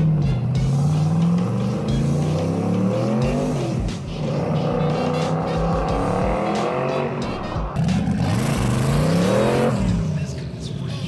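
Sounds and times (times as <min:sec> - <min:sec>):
turbocharged engine revving: 0:00.0 - 0:11.0.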